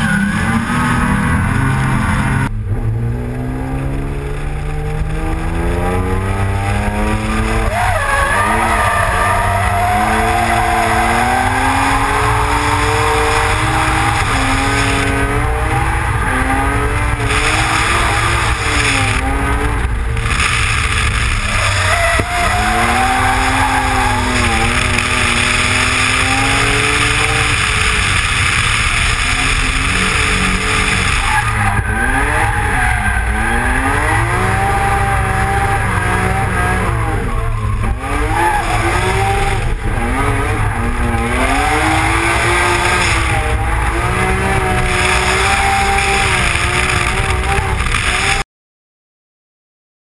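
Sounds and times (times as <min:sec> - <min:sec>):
car engine revving hard: 0:00.0 - 0:48.4
tyres squealing: 0:07.1 - 0:47.9.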